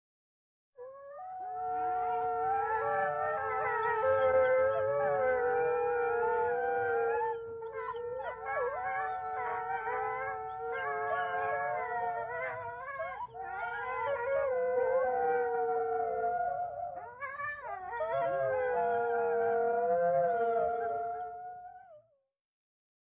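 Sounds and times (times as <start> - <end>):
wolves howling in chorus: 0.8 - 22.0.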